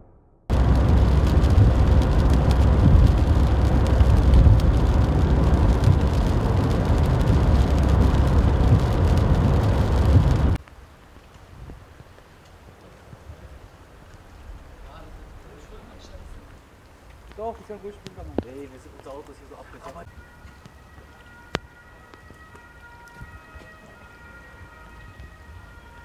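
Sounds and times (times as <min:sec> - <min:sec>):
rain pattering on windshield: 0:00.5 - 0:26.0
road and engine rumble: 0:00.5 - 0:26.0.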